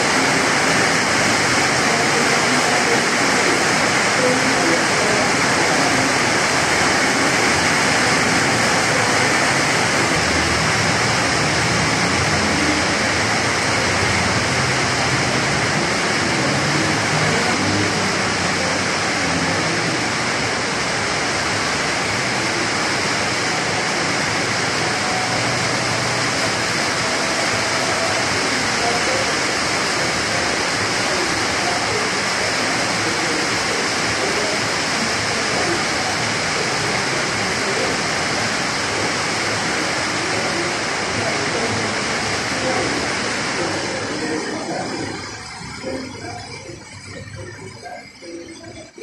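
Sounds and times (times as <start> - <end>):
heavy rain on tiled paving: 0.0 - 49.0.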